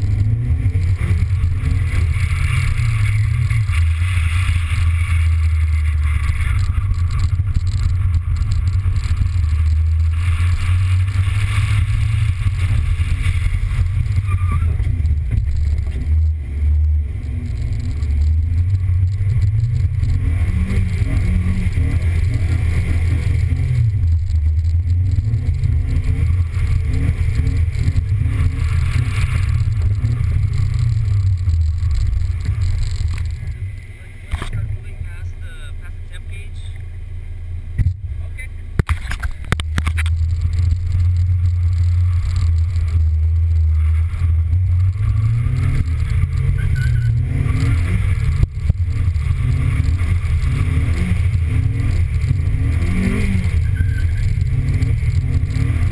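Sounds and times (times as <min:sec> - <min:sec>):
car engine and road drone: 0:00.0 - 0:55.9.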